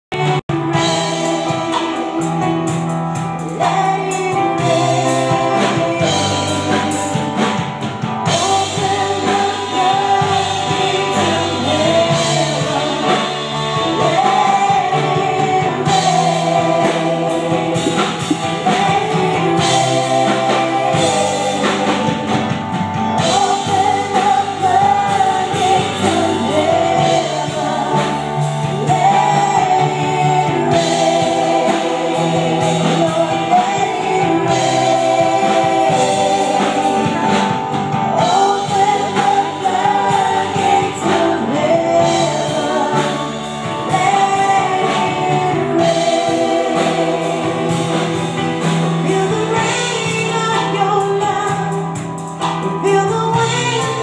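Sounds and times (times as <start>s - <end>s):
steady drum beat: 0.1s - 54.0s
women singing together: 0.7s - 7.6s, 8.2s - 51.9s.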